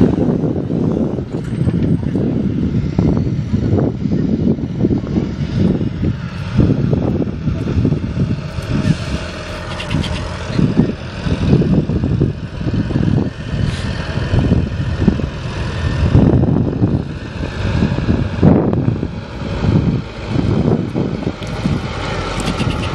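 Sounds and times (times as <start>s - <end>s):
tractor engine running: 0.0s - 22.9s
wind rumble on microphone: 0.0s - 22.9s.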